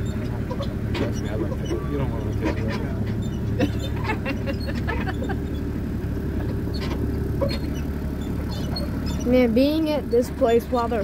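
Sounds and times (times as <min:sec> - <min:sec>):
tractor engine drone: 0:00.0 - 0:11.0
wagon rattling and knocking: 0:00.0 - 0:11.0.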